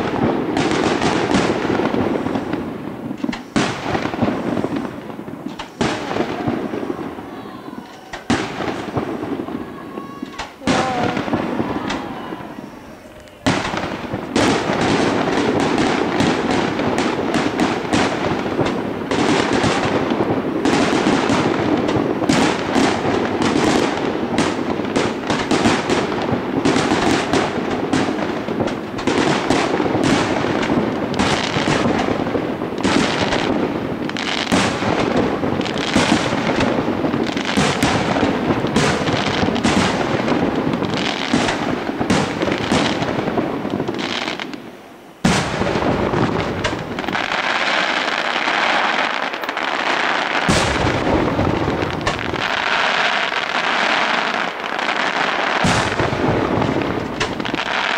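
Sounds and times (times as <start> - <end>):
fireworks bursting and crackling: 0.0 - 57.9.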